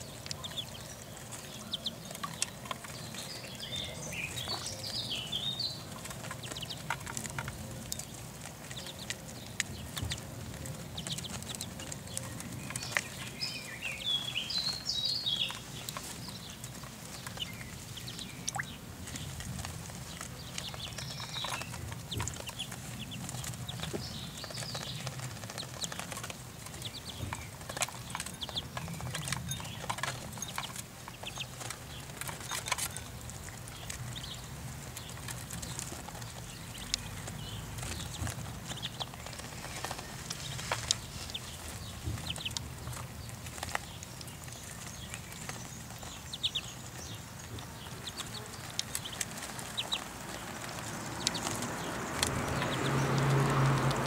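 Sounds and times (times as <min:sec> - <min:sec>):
bills pecking at food: 0:00.0 - 0:54.0
ducklings peeping: 0:00.0 - 0:54.0.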